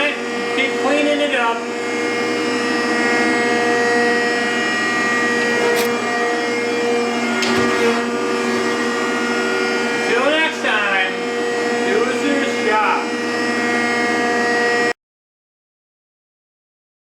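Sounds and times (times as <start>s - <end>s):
hydraulic planer whining: 0.0s - 14.9s.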